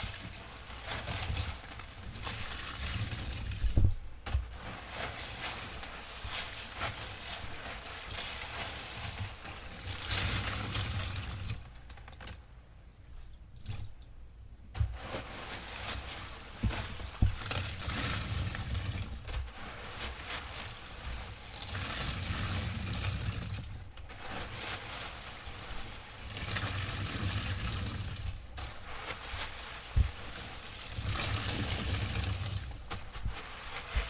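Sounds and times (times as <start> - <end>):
wet sponge squelching: 0.0 - 11.8, 14.7 - 34.0.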